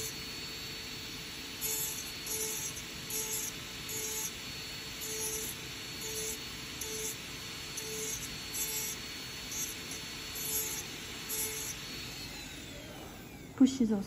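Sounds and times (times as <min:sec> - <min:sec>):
dental drill whine: 0:00.0 - 0:14.0.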